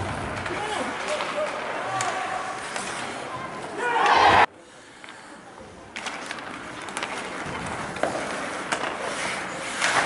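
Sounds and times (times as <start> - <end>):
hockey sticks and puck clacking: 0.0 - 4.2, 5.8 - 10.0
skates scraping ice: 0.0 - 10.0.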